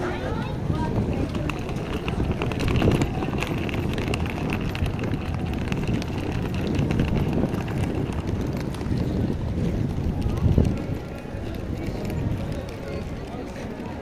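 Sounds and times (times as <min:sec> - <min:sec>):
steady low rumble: 0:00.0 - 0:13.3
wind buffeting microphone: 0:00.0 - 0:14.0
footsteps on brick paving: 0:00.1 - 0:14.0.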